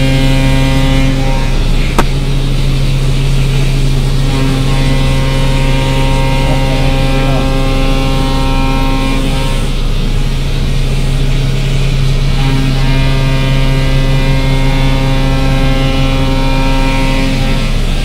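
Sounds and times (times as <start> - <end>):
milling machine hum: 0.0 - 18.0.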